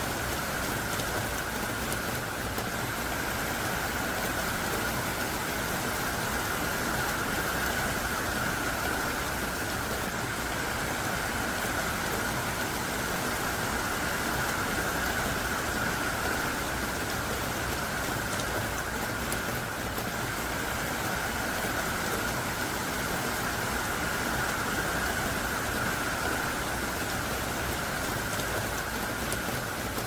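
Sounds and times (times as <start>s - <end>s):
heavy rain downpour: 0.0s - 30.0s.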